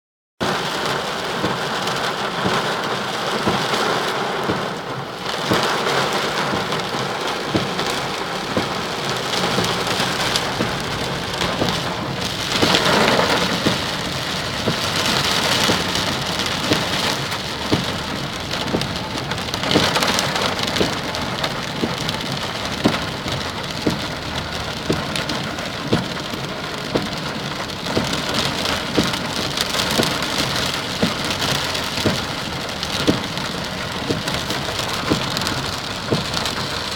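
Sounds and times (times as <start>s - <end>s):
heavy rain on hard surface: 0.4s - 36.9s.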